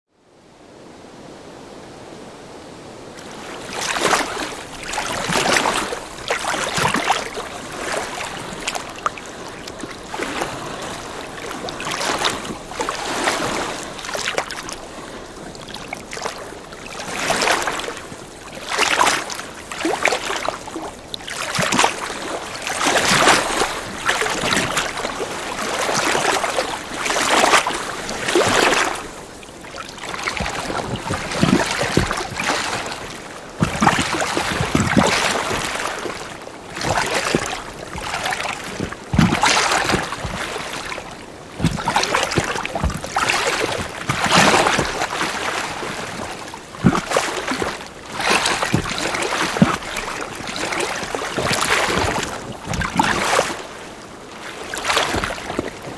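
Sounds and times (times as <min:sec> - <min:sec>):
lake waves lapping at shore: 0:03.0 - 0:55.9.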